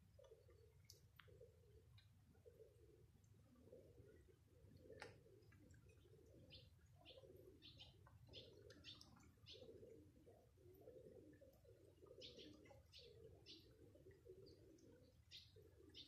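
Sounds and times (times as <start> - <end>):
faint low cooing: 0.0 - 16.0.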